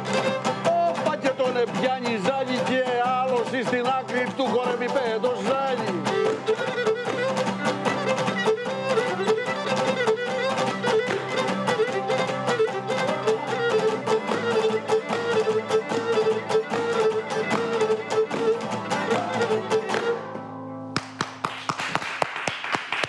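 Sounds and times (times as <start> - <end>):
lutes strumming a driving rhythm: 0.0 - 21.4.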